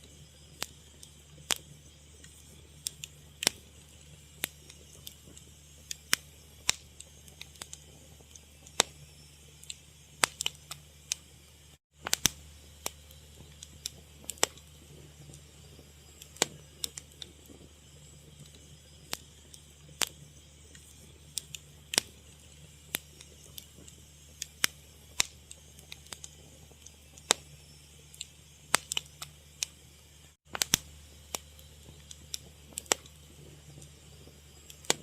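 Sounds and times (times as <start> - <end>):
fire crackling and popping: 0.0 - 35.0
low steady hum: 0.0 - 35.0.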